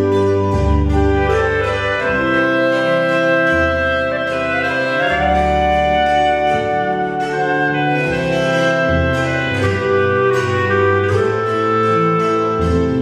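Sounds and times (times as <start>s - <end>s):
church organ: 0.0s - 13.0s
clarinets playing folk melody: 0.0s - 13.0s
double bass held notes: 0.0s - 13.0s.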